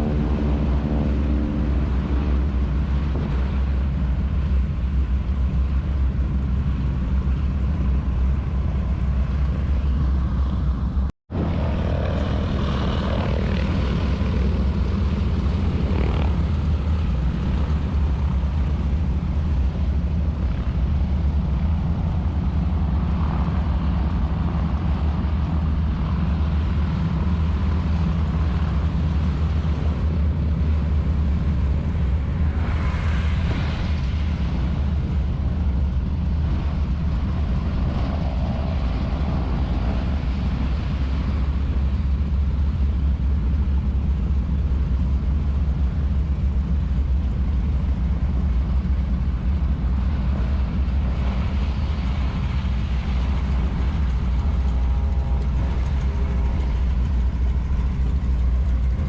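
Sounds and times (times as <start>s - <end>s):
aircraft propeller engines droning: 0.0s - 59.0s.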